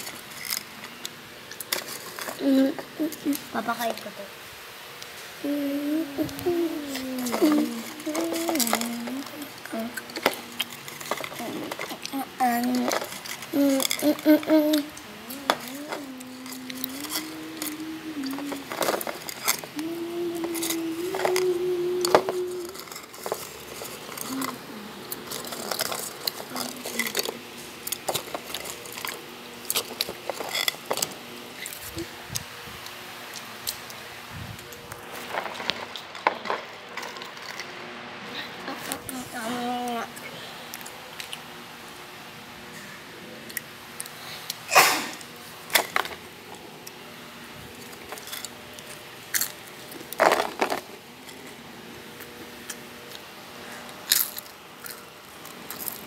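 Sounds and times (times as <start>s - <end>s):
faint room hum: 0.0s - 56.0s.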